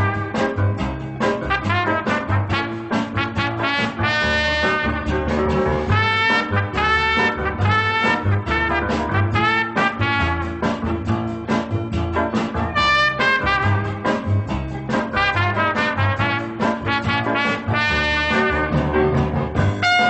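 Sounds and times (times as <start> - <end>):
swing music with brass: 0.0 - 20.0.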